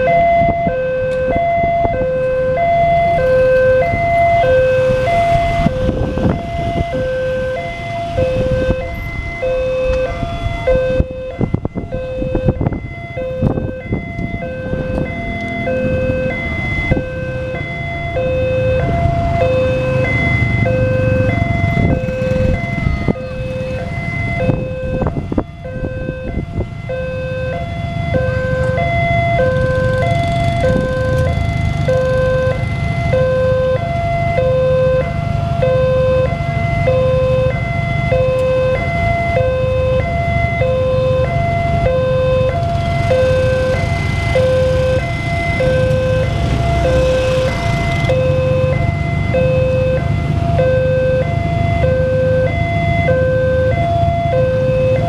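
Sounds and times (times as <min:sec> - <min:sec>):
two-tone crossing alarm: 0:00.0 - 0:55.0
engines idling: 0:01.7 - 0:55.0.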